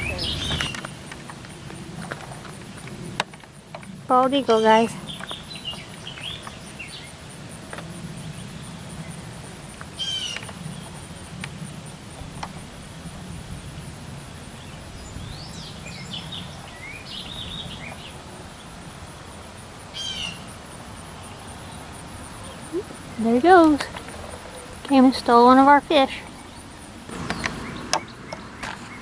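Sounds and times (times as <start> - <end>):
birds chirping: 0.0 - 3.1, 3.8 - 11.4, 14.4 - 29.0.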